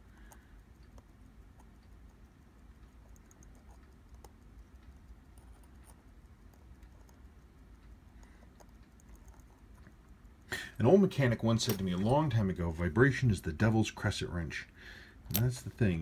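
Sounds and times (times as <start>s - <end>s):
quiet room hum: 0.0s - 16.0s.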